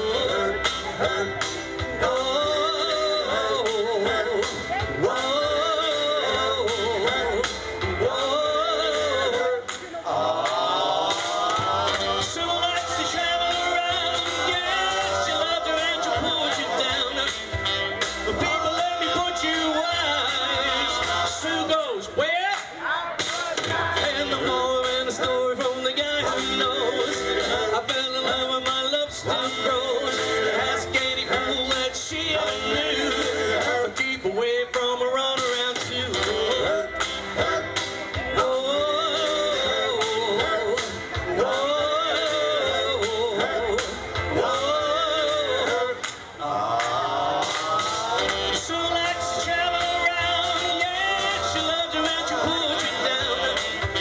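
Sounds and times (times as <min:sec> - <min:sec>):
male vocal group singing: 0:00.0 - 0:54.0
music with steady beat: 0:00.0 - 0:54.0.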